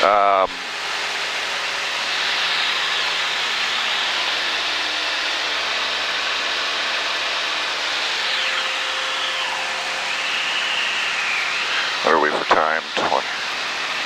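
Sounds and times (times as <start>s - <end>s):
light aircraft engine and propeller: 0.0s - 14.0s.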